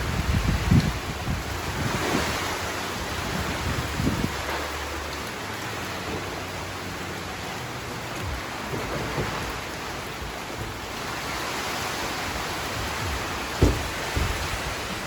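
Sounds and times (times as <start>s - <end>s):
wind buffeting: 0.0s - 5.0s, 5.9s - 15.0s
heavy rain: 0.0s - 15.0s.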